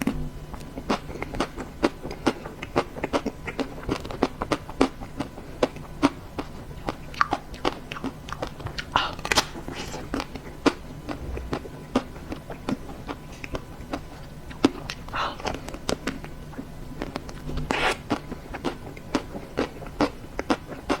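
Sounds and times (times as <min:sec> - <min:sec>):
chocolate shell crunching while chewing: 0:00.6 - 0:21.0.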